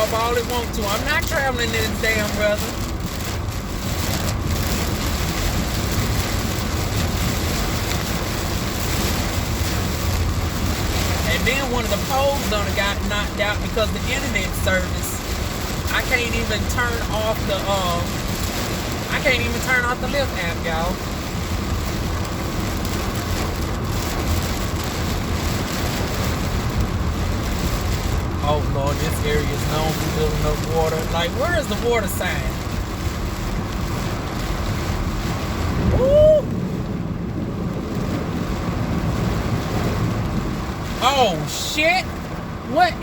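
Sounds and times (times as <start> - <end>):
heavy rain on car roof: 0.0 - 43.0
steady low rumble: 0.0 - 43.0.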